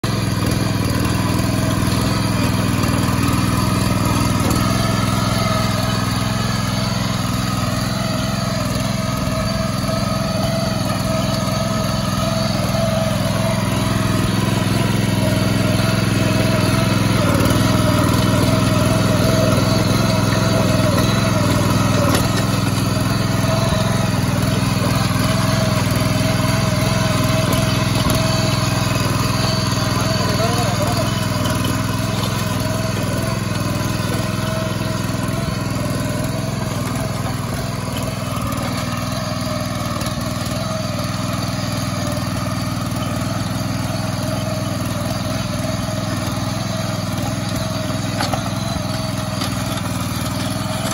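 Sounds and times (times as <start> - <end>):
small petrol engine running: 0.0 - 50.9
tines churning muddy soil: 0.0 - 50.9.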